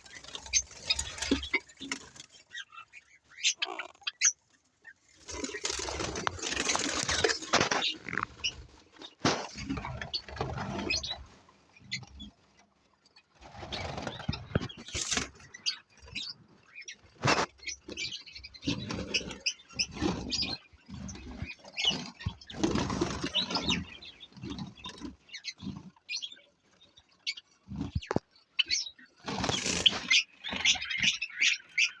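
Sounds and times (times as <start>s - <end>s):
wings flapping and rustling: 0.0s - 3.0s, 5.0s - 26.0s, 29.2s - 31.0s
sparrows chipping and calling: 0.0s - 32.0s.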